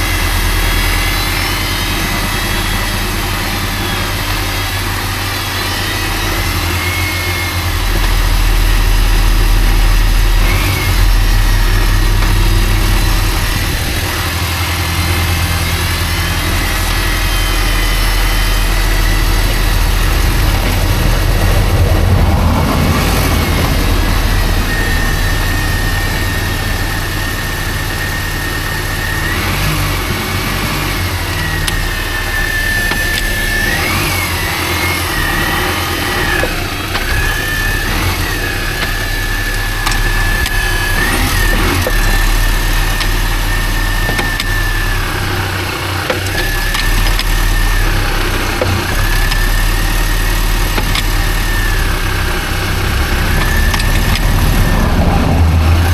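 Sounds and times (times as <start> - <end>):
car engine with high whine: 0.0 - 55.9.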